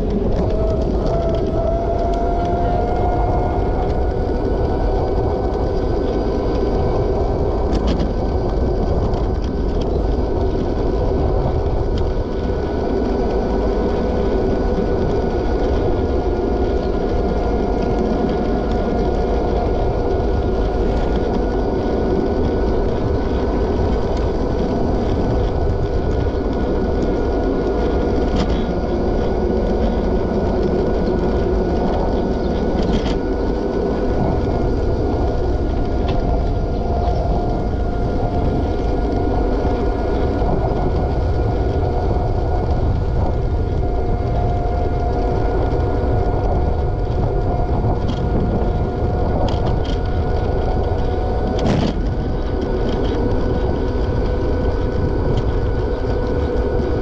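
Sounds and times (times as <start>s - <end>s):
constant tonal whine: 0.0s - 57.0s
wind rumble on microphone: 0.0s - 57.0s.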